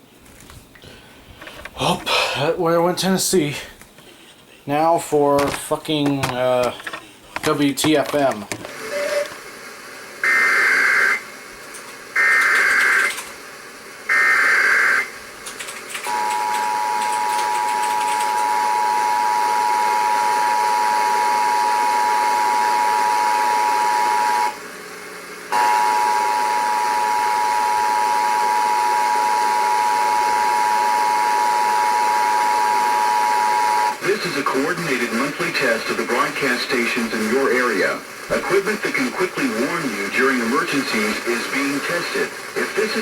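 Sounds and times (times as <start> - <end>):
radio hiss: 1.2 - 15.4, 16.0 - 43.0.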